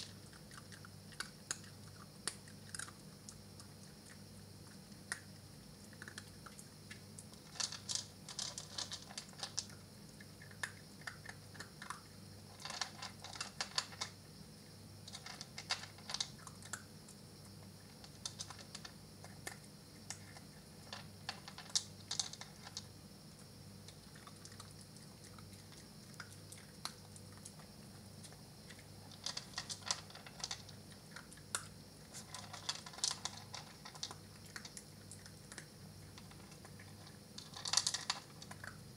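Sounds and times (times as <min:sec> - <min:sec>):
puppy eating from plastic bowl: 0:00.0 - 0:14.2, 0:15.0 - 0:38.9.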